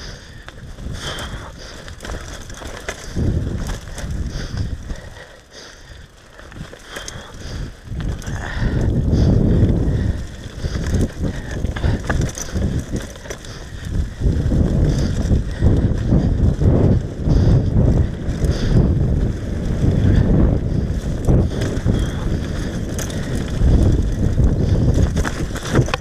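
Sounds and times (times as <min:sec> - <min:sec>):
bike clicking and rattling: 0:00.0 - 0:26.0
bike tyres crunching on leaves: 0:00.0 - 0:26.0.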